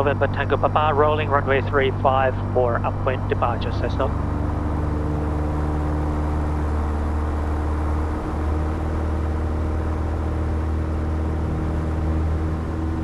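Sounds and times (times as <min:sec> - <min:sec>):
light aircraft engine and propeller: 0:00.0 - 0:13.0.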